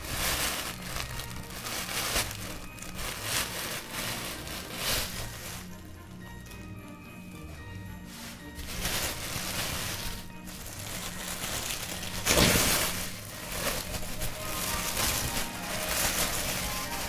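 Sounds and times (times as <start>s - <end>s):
soft background music: 0.0s - 17.0s
tissue paper rustling: 0.0s - 17.0s.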